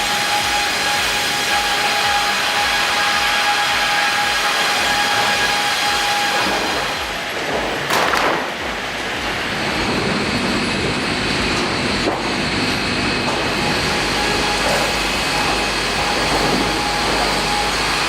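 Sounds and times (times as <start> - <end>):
wood-processing machinery whining: 0.0 - 18.0.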